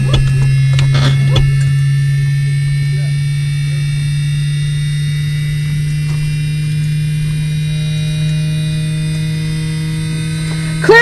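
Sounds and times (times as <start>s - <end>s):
faint high whines: 0.0s - 11.0s
steady electrical hum: 0.0s - 11.0s.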